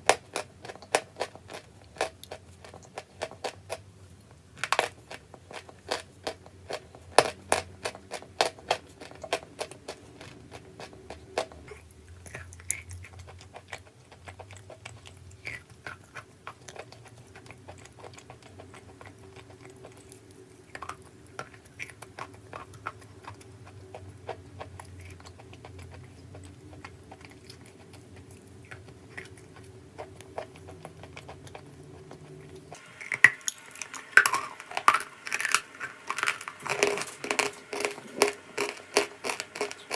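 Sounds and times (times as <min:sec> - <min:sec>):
chalk being chewed with crunches: 0:00.0 - 0:39.9
faint steady hum: 0:00.0 - 0:39.9.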